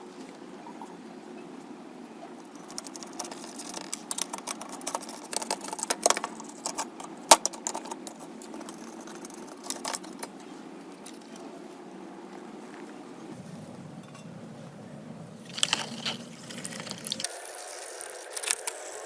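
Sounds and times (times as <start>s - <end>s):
steady low hum: 0.0s - 17.3s.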